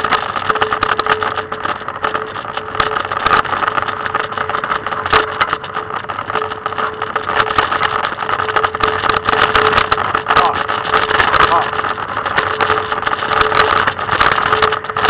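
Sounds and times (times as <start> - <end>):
faint steady hum: 0.0 - 15.0
scooter wheels rattling: 0.0 - 15.0.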